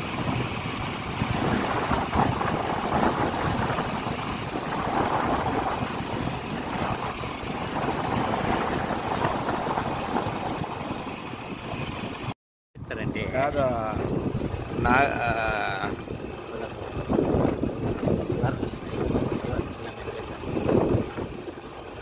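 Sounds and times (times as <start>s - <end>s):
vehicle rumbling on dirt road: 0.0s - 22.0s
wind on microphone: 0.0s - 22.0s.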